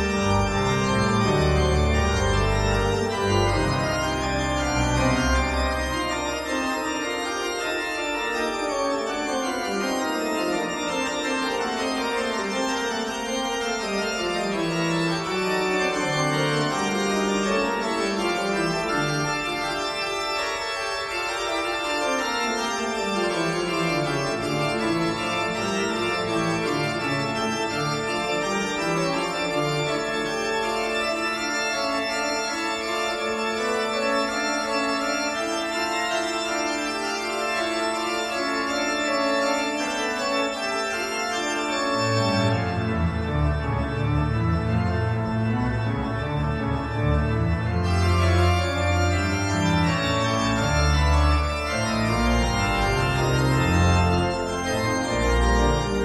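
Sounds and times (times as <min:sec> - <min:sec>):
sustained keyboard chords: 0:00.0 - 0:56.0.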